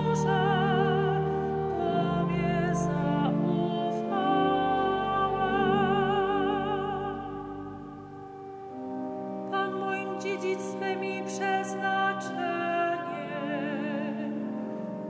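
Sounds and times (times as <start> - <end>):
woman singing with vibrato: 0.0 - 7.8, 9.5 - 14.7
organ chords: 0.0 - 15.0.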